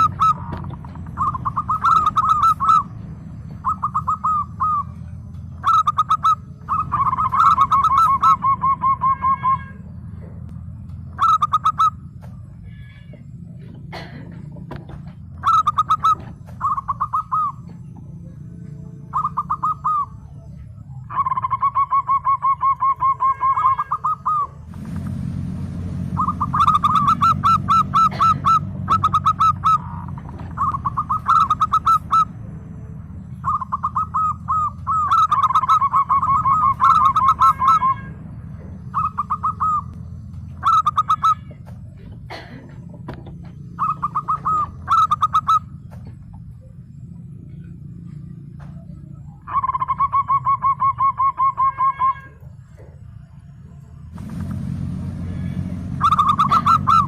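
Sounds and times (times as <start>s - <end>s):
fast bird trill: 0.0s - 10.2s, 10.8s - 13.6s, 15.3s - 18.4s, 19.0s - 24.8s, 26.0s - 42.0s, 43.4s - 48.2s, 48.9s - 52.8s, 55.1s - 57.0s
doves cooing: 0.0s - 57.0s
steady low hum: 0.0s - 57.0s.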